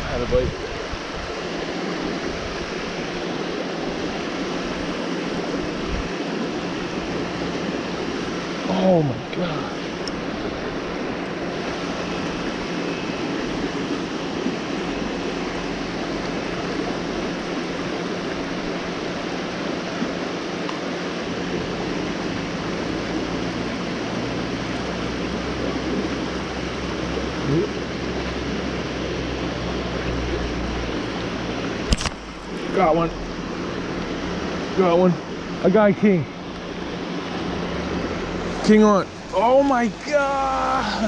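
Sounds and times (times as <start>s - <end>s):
fast-flowing water rushing: 0.0s - 41.0s.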